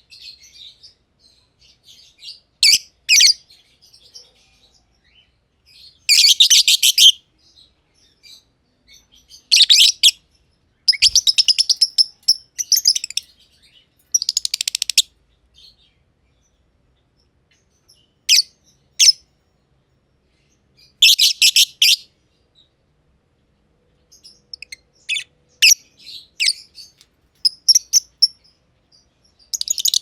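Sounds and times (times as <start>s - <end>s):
lovebirds chirping: 0.0s - 19.2s, 20.2s - 22.8s, 24.0s - 30.0s.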